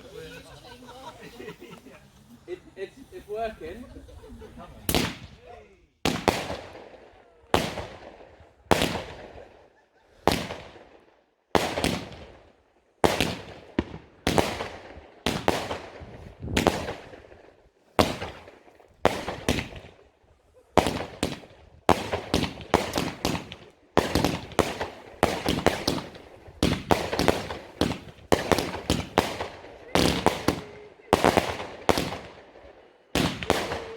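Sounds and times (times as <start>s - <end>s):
fireworks banging: 4.0s - 5.4s, 6.0s - 11.0s, 11.6s - 33.9s.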